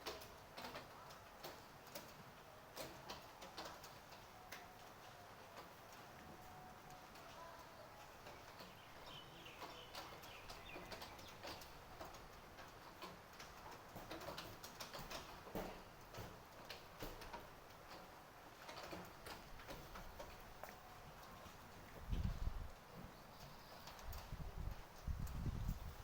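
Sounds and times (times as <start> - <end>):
rain dripping and pattering: 0.0 - 26.0.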